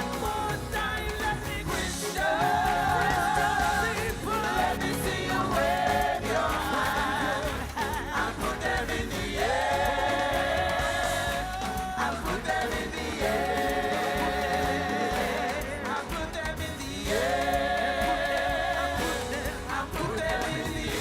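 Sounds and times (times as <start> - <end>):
band accompaniment: 0.0 - 21.0
gospel choir singing: 0.0 - 21.0.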